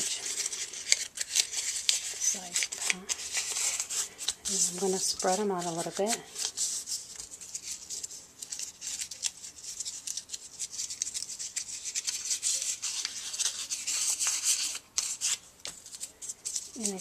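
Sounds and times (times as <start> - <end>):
paper crinkling and rustling: 0.0 - 17.0.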